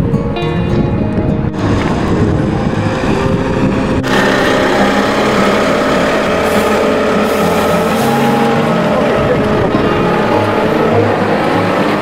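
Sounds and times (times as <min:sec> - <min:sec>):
bus engine hum: 0:01.2 - 0:12.0.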